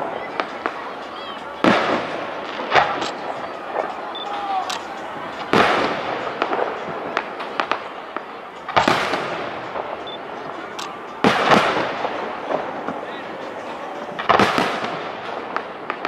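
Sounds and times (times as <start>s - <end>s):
firework shells bursting: 1.6s - 16.0s.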